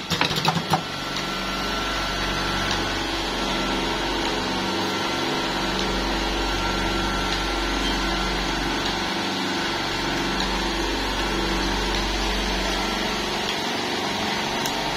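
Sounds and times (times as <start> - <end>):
cigarette filling machine humming: 0.0 - 14.9.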